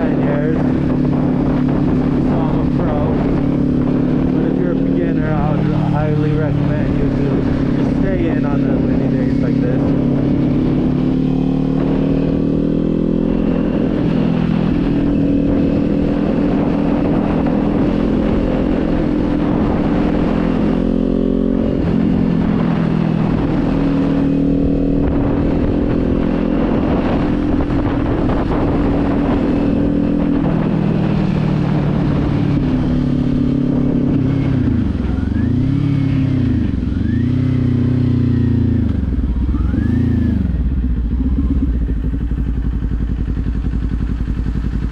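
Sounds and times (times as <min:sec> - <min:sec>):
motorcycle engine running: 0:00.0 - 0:44.9
wind rushing over microphone: 0:00.0 - 0:44.9.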